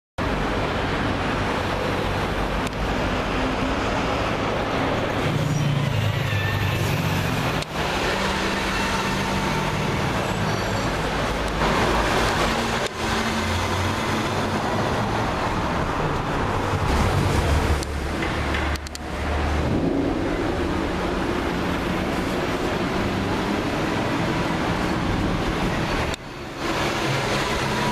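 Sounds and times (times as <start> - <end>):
passing car engines: 0.2 - 27.9
steady road noise: 0.2 - 27.9.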